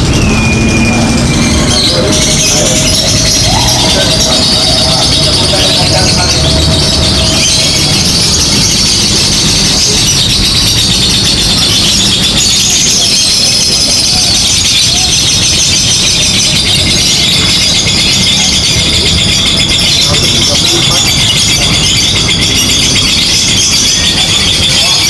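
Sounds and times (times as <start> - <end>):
lovebird chattering song: 0.0 - 25.0.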